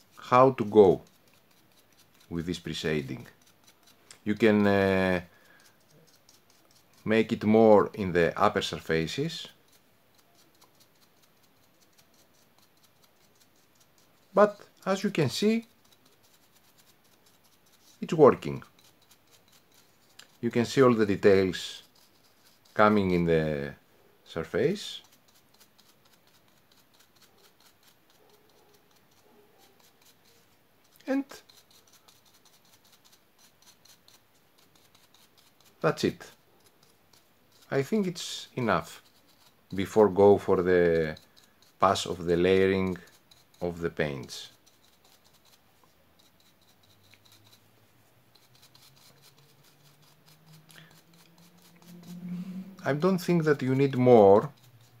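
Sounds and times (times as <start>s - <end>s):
brush bristles scratching: 0.0s - 55.0s.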